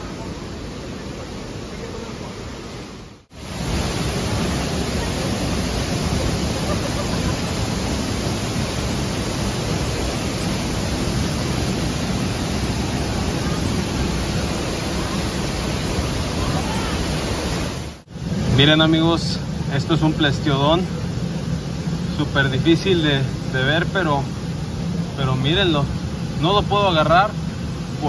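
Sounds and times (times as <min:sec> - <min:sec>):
outdoor hiss: 0:00.0 - 0:28.0
white water rushing: 0:00.0 - 0:28.0.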